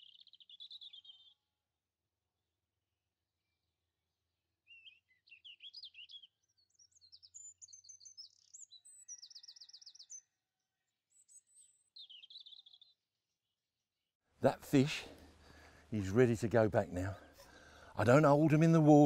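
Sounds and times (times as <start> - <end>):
songbird singing: 0.0 - 1.7, 3.3 - 19.0.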